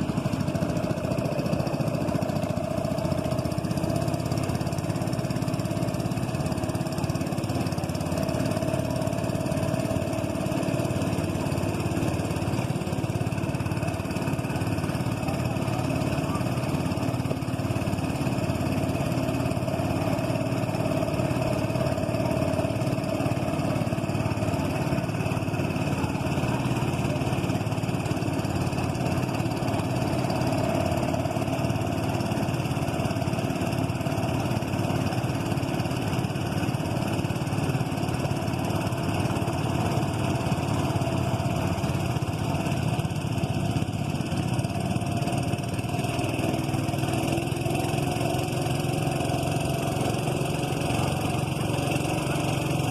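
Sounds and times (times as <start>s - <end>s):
small boat engine running: 0.0s - 52.9s.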